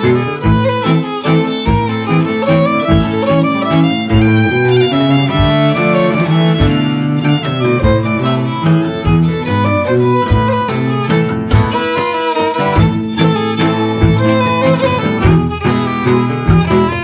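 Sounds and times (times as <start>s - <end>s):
acoustic guitar: 0.0s - 17.0s
bowed violin melody: 0.0s - 17.0s
cello: 0.0s - 17.0s.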